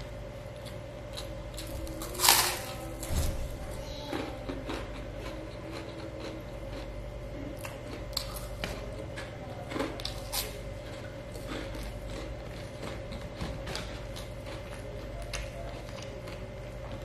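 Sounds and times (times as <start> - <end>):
electrical hum: 0.0 - 17.0
person chewing crunchy food: 0.4 - 17.0.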